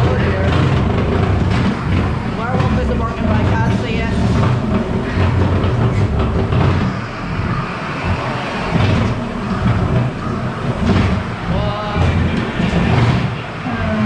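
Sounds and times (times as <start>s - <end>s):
ride car rumbling on track: 0.0s - 14.0s
rising pitched scare effect: 0.0s - 14.0s.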